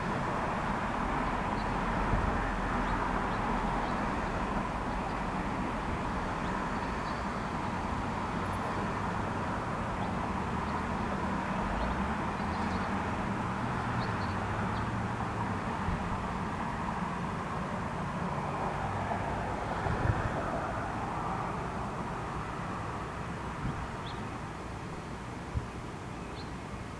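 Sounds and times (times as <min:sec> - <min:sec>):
low engine hum: 0:00.0 - 0:26.9
road traffic going by: 0:00.0 - 0:26.9.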